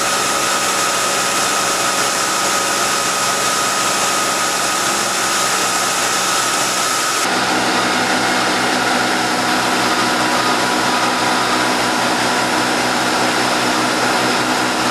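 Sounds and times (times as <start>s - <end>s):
coolant hiss with high whine: 0.0s - 14.9s
low machine hum: 0.0s - 14.9s
milling machine cutting metal: 0.0s - 14.9s.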